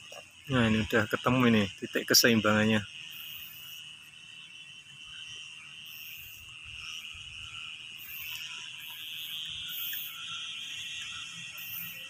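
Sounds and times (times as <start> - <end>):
frogs and insects trilling: 0.0 - 12.0.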